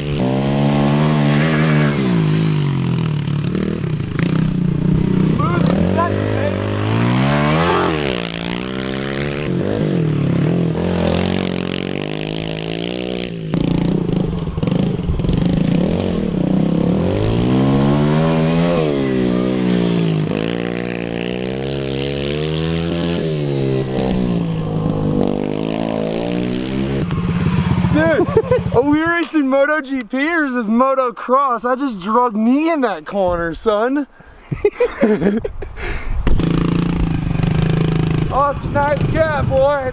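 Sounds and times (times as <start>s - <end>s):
motorbike engine revving: 0.0s - 29.2s, 36.3s - 39.7s.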